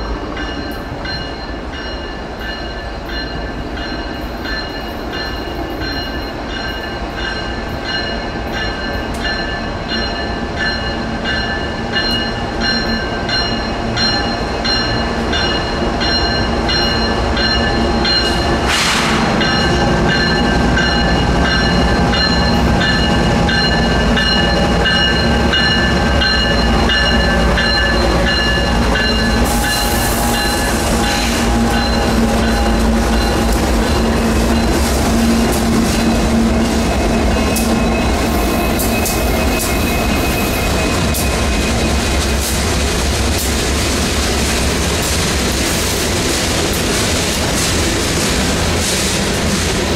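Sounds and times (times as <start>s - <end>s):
hopper cars rolling on rails: 0.0s - 49.9s
locomotive engines rumbling: 0.0s - 49.9s.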